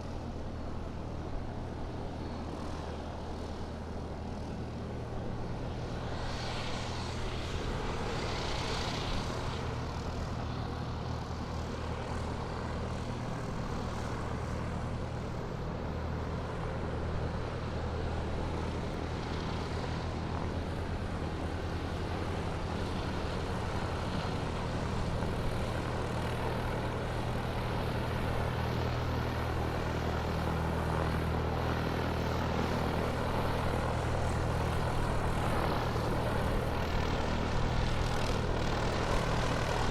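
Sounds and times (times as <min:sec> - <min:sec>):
airplane engines droning: 0:00.0 - 0:39.9.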